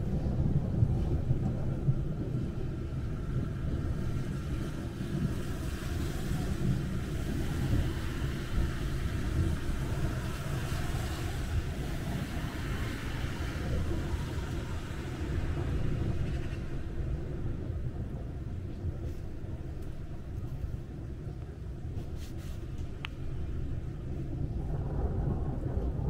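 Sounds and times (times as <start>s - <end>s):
rain hiss: 0.0s - 26.0s
thunder rumble: 0.0s - 26.0s.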